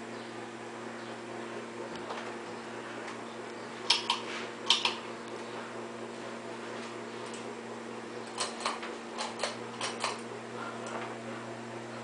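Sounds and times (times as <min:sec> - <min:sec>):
ceiling fan motor hum: 0:00.0 - 0:12.0.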